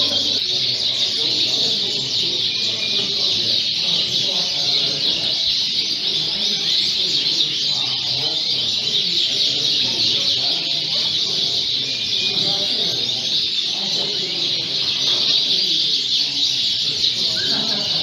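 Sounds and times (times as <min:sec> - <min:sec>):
canaries chirping and singing: 0:00.0 - 0:18.0
murmur of people talking: 0:00.0 - 0:18.0.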